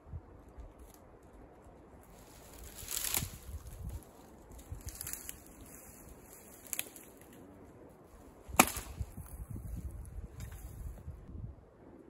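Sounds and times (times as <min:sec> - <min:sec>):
dry branches cracking: 0:00.4 - 0:11.0.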